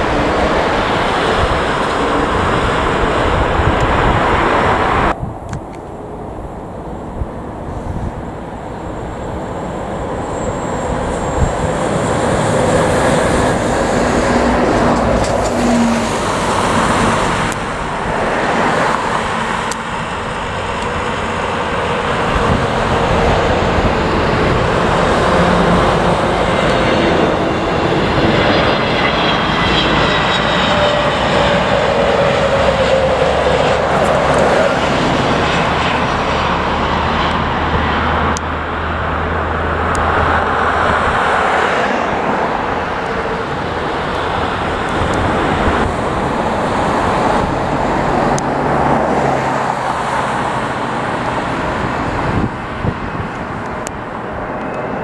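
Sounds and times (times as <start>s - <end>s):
jet engines passing: 0.0s - 55.0s.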